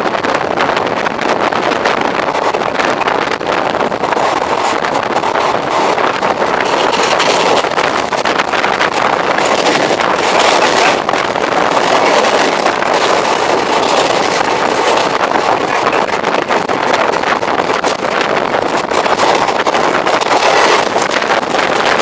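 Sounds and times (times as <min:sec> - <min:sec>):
train wheels rushing on rails: 0:00.0 - 0:22.0
clicks and rattles: 0:04.1 - 0:22.0.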